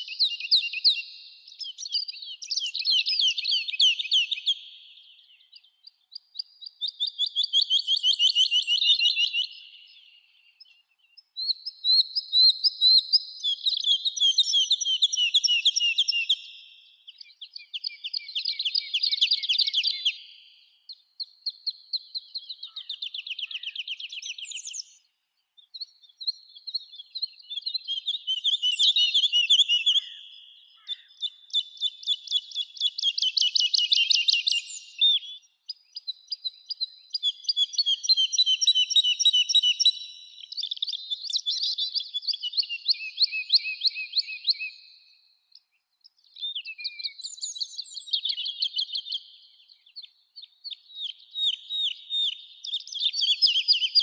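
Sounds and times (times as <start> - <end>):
songbirds singing trilled phrases: 0.0 - 54.0.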